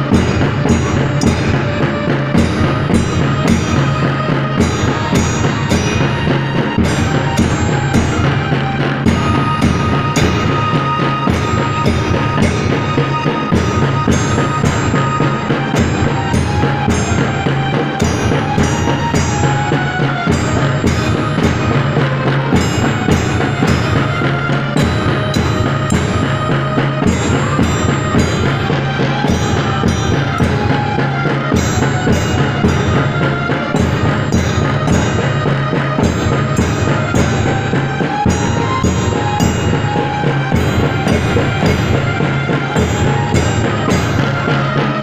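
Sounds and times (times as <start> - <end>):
marching music: 0.0 - 45.0
steady drumbeat: 0.0 - 45.0.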